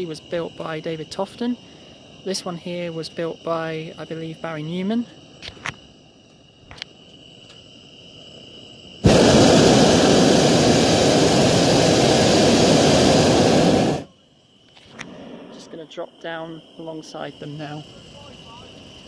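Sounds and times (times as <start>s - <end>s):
propane burner roaring: 0.0s - 19.0s.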